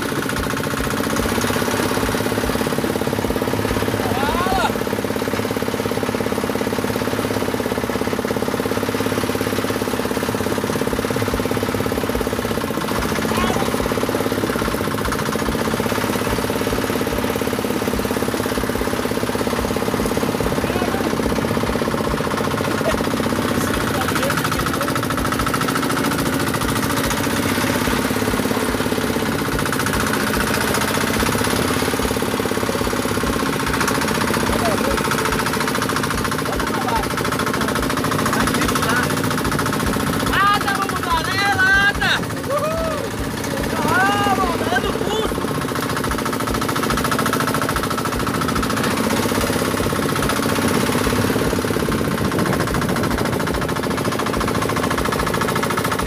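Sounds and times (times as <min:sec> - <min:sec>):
boat engine knocking steadily: 0:00.0 - 0:56.0.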